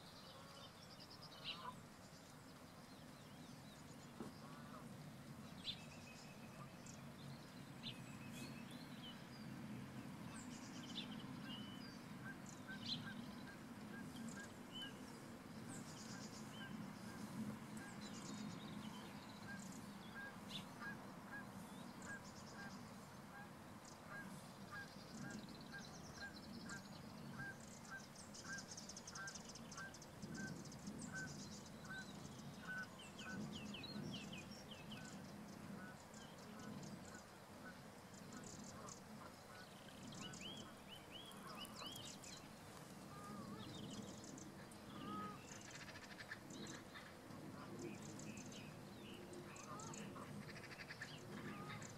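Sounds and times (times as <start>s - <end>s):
distant repeated bird calls: 0.0s - 51.9s.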